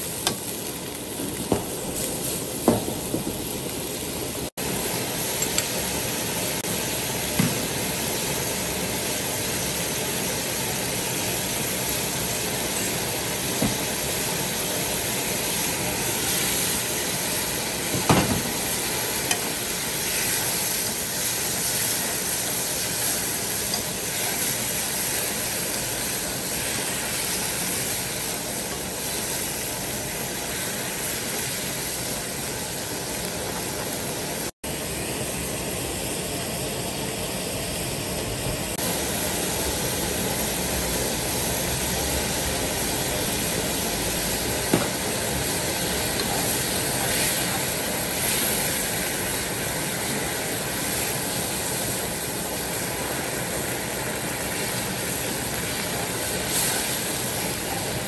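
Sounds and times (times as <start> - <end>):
broth bubbling in a wok: 0.0 - 58.0
gas burner hiss: 0.0 - 58.0.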